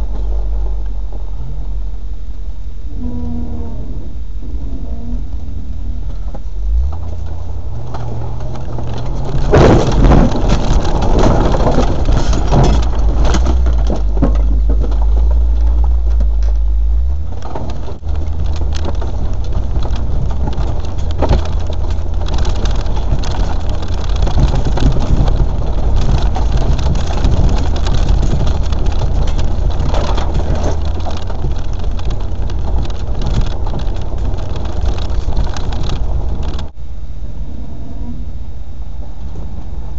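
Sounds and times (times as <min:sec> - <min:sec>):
loud rushing crackling noise: 0:00.0 - 0:37.1
engine running at low revs: 0:00.0 - 0:39.9.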